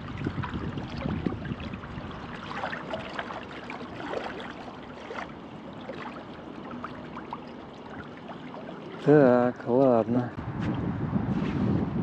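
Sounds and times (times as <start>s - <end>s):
small water splashes: 0.0s - 10.1s
river water lapping: 0.0s - 10.2s.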